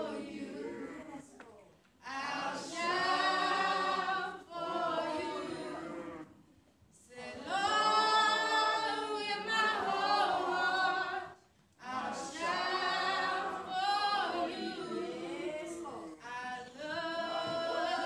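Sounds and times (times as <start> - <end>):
unaccompanied worship singing: 0.0 - 18.0.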